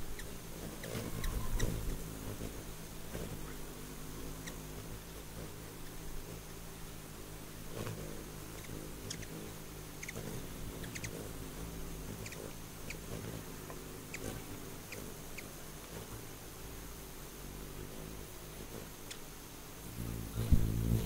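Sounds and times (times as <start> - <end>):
hummingbird wings humming: 0.0 - 21.0.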